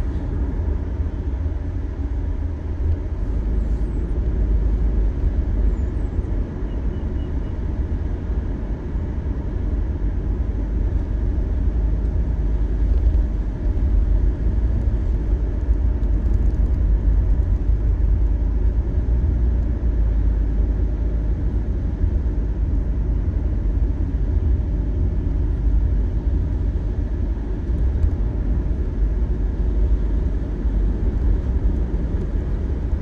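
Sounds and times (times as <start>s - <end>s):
car cabin road rumble: 0.0s - 33.0s.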